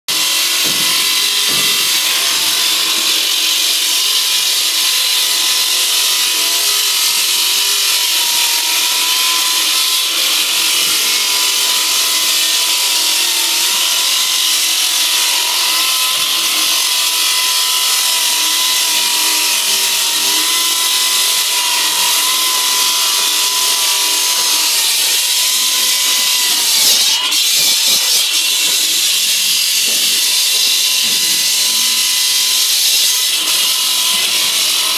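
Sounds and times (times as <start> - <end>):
saw grinding concrete: 0.1 - 34.9.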